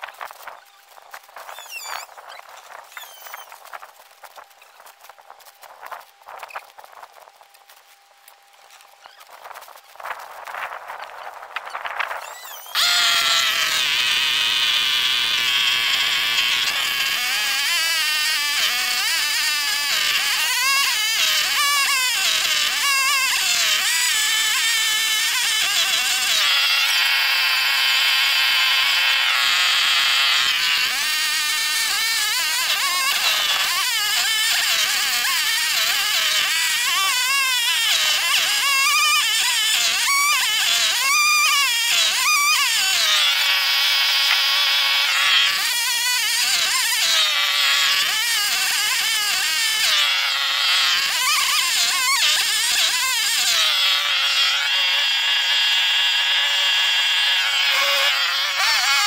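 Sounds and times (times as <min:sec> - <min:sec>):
chainsaw cutting wood: 0:11.7 - 0:59.0.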